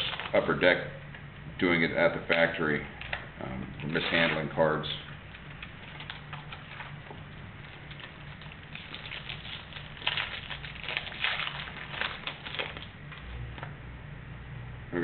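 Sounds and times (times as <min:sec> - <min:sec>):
packaging crinkling and rustling: 0:00.0 - 0:00.8, 0:02.3 - 0:13.7
steady low hum: 0:00.0 - 0:15.0.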